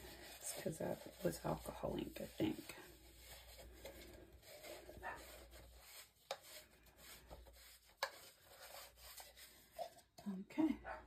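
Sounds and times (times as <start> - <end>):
rubbing and wiping by hand: 0.0 - 10.2.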